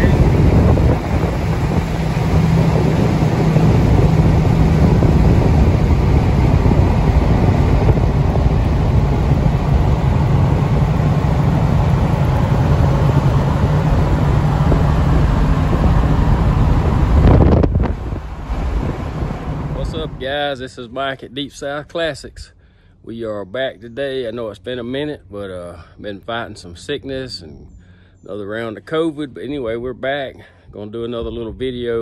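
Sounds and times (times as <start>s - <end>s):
engine drone: 0.0s - 32.0s
wind and road noise: 0.0s - 32.0s.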